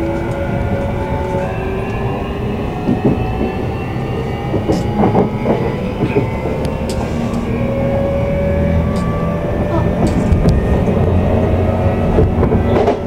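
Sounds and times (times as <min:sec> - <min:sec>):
train motor whine: 0:00.0 - 0:13.0
train wheel and track rumble: 0:00.0 - 0:13.0.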